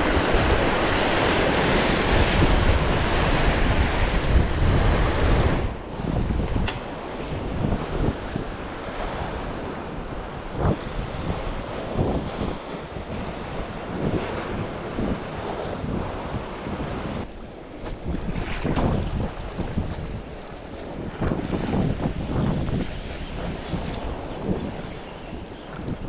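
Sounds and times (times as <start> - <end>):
sea waves washing: 0.0 - 26.0
wind buffeting microphone: 0.0 - 26.0.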